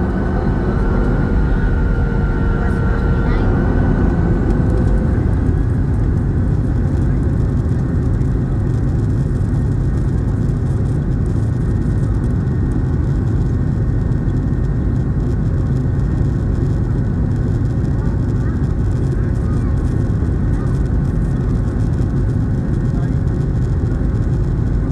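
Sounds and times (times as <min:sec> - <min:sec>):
jet engines low rumble in cabin: 0:00.0 - 0:24.9.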